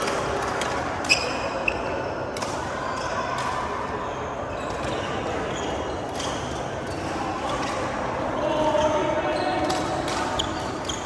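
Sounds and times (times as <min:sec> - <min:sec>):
murmur of hall: 0:00.0 - 0:11.0.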